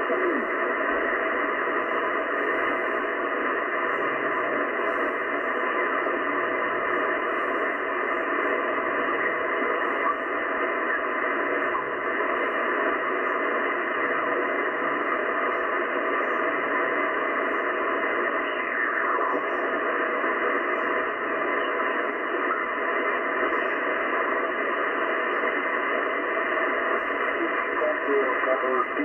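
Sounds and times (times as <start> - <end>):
filtered shortwave radio hiss: 0.0 - 29.0.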